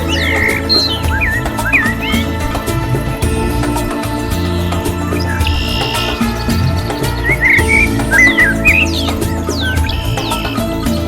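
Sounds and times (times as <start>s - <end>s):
music with bass and beat: 0.0s - 11.0s.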